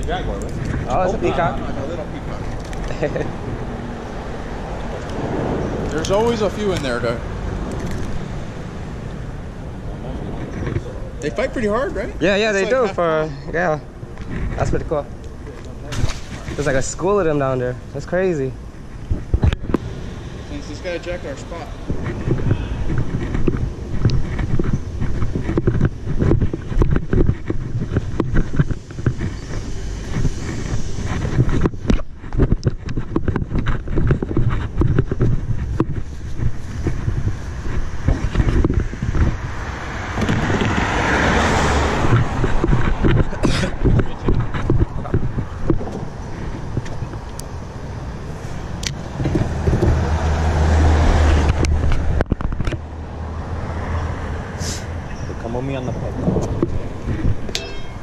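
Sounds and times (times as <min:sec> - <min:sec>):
wind buffeting microphone: 0:00.0 - 0:12.5, 0:13.1 - 0:58.0
vehicle passing: 0:00.0 - 0:58.0.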